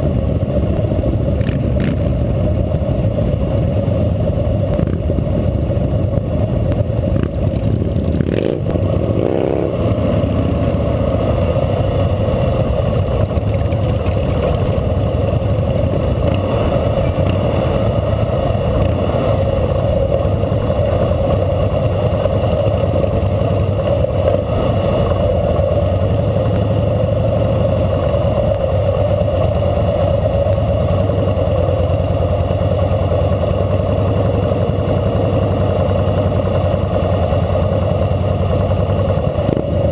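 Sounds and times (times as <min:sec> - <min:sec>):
motorcycle engine running: 0:00.0 - 0:39.9
other motorcycle engines: 0:00.0 - 0:39.9.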